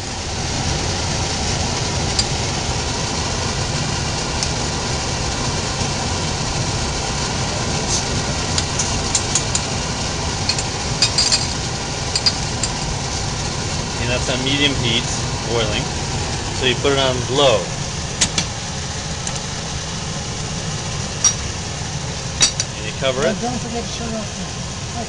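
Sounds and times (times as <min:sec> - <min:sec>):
broth boiling in a pot: 0:00.0 - 0:25.0.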